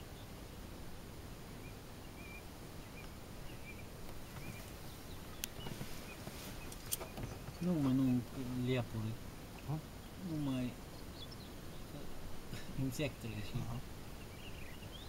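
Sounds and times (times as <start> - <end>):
low steady rumble: 0.0 - 15.0
faint bird chirps: 1.6 - 15.0.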